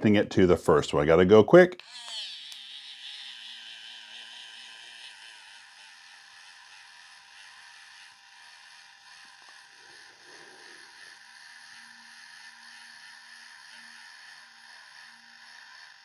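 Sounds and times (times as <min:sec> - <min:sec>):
small motor whirring faintly: 0:01.7 - 0:16.0.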